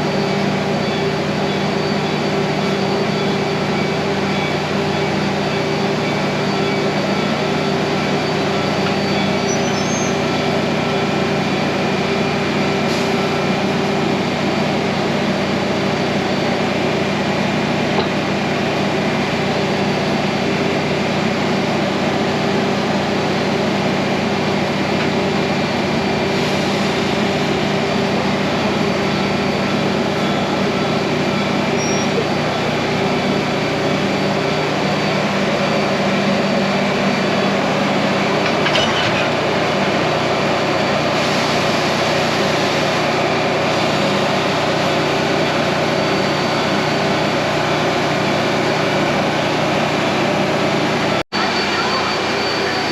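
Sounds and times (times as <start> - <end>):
train mechanical drone: 0.0 - 52.9.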